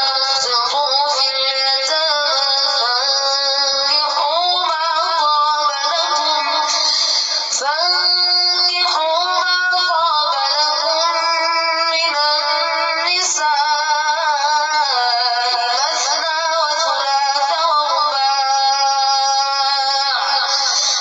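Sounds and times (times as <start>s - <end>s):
person chanting recitation: 0.0s - 21.0s.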